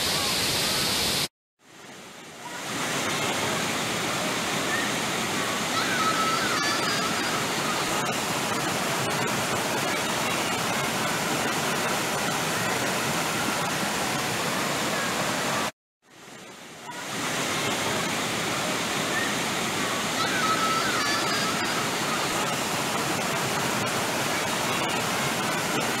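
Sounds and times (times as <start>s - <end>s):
water rushing over boulders: 0.0s - 26.0s.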